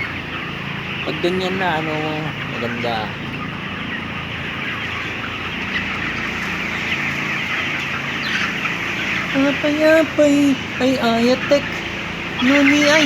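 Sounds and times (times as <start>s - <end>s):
chickens clucking and chirping: 0.0s - 13.0s
low steady hum: 0.0s - 13.0s.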